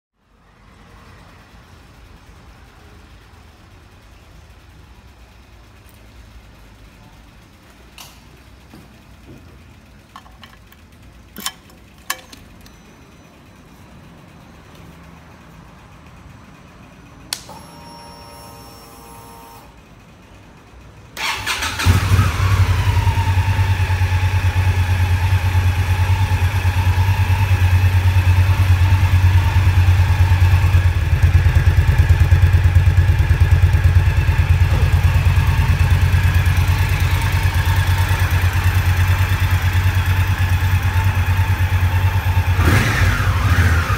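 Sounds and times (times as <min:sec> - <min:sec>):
motorcycle engine starting and idling: 0:01.6 - 0:43.9.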